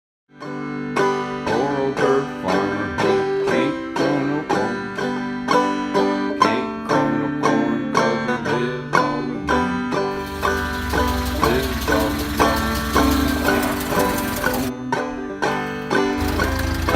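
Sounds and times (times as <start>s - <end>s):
banjo playing old-time tune: 0.3s - 16.9s.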